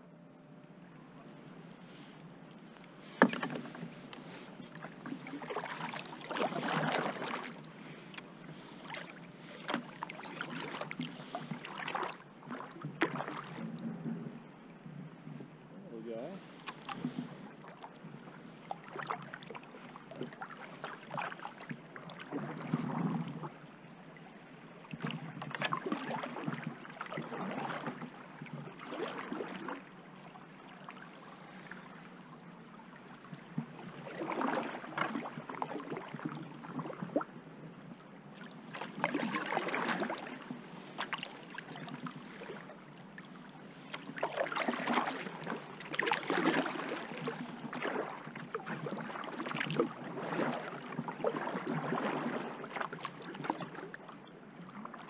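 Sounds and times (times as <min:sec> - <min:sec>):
paddle strokes splashing in water: 0:03.0 - 0:14.3, 0:16.2 - 0:32.1, 0:32.8 - 0:37.3, 0:38.4 - 0:55.0.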